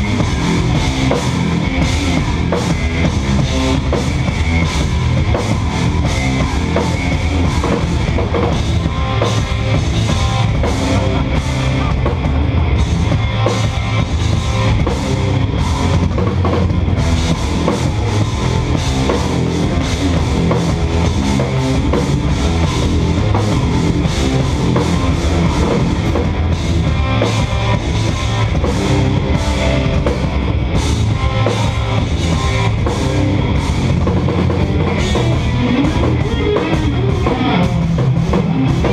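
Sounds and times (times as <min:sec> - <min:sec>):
bass drum: 0:00.0 - 0:38.9
live metal band playing: 0:00.0 - 0:38.9.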